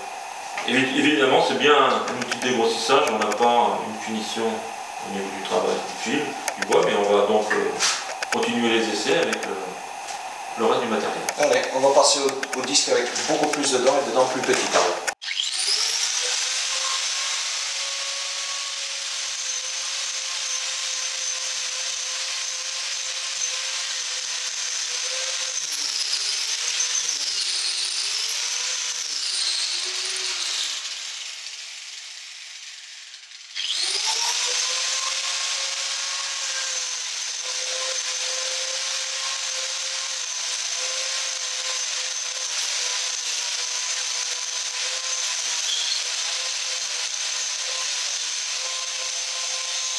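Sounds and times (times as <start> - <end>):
angle grinder cutting wood: 0.0 - 49.9.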